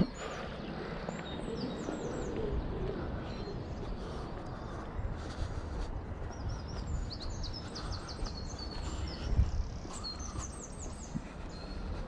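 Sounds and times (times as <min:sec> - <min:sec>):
low outdoor rumble: 0:00.0 - 0:12.0
songbirds chirping: 0:00.0 - 0:12.0.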